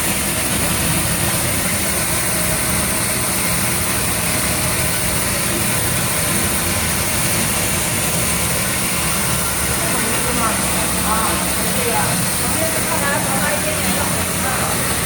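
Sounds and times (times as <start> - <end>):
machinery rumble with high hiss: 0.0 - 15.0.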